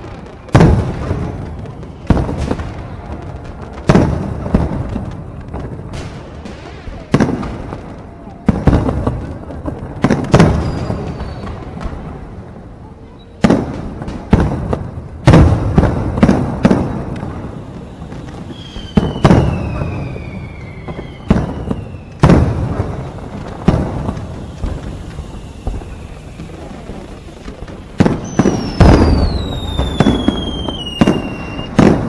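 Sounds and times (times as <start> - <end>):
fireworks booming: 0.0 - 32.0
fireworks whistling: 0.0 - 32.0.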